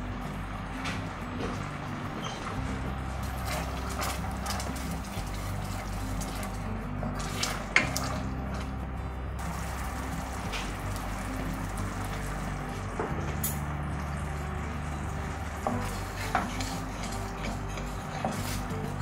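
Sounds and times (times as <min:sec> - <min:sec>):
sauce simmering and bubbling: 0:02.5 - 0:19.0.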